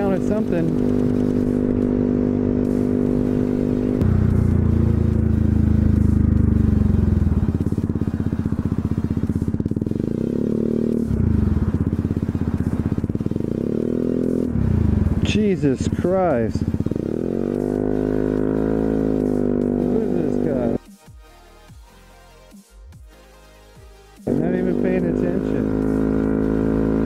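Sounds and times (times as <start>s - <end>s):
scooter engine running: 0.0s - 20.8s, 24.2s - 27.0s.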